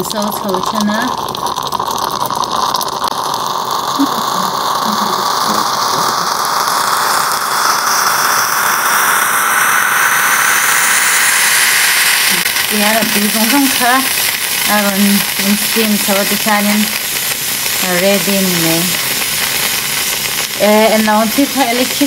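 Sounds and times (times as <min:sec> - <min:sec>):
moka pot hissing and whistling: 0:00.0 - 0:22.0.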